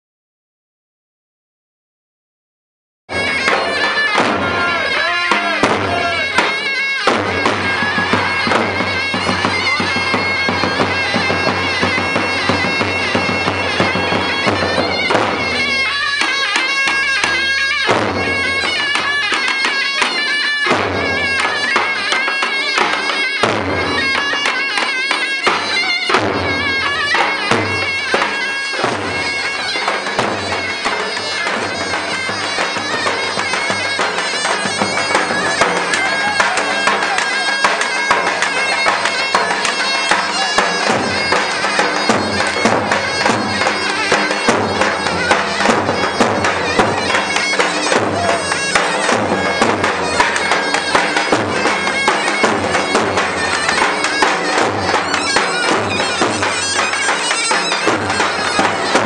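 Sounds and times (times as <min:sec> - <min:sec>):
reedy shawm melody: 0:03.1 - 0:59.0.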